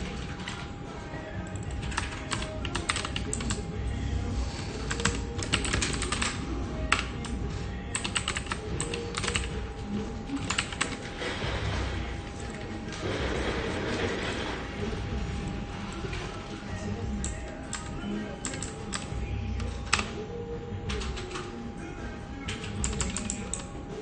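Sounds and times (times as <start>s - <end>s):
keyboard typing: 0.0s - 0.7s, 1.4s - 3.7s, 4.7s - 20.2s, 20.9s - 21.6s, 22.4s - 23.8s
low room hum: 0.0s - 24.0s.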